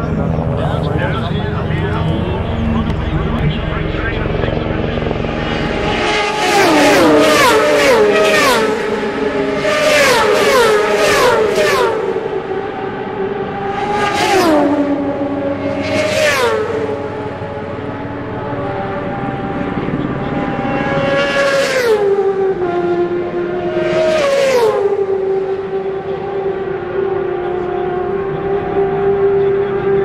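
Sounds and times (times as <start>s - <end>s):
motorcycle engines running: 0.0s - 30.0s
racing motorcycles passing: 0.0s - 30.0s.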